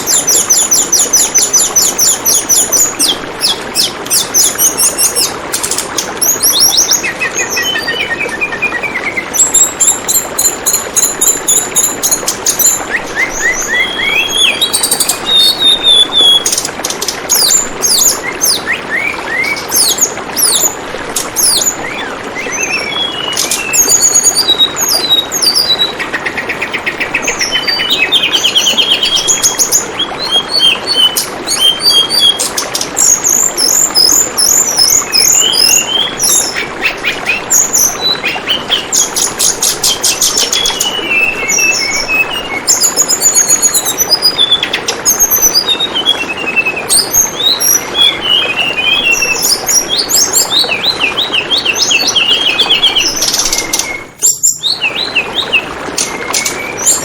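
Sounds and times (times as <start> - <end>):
flowing water babbling: 0.0 - 57.0
songbird chirping and trilling: 0.0 - 57.0.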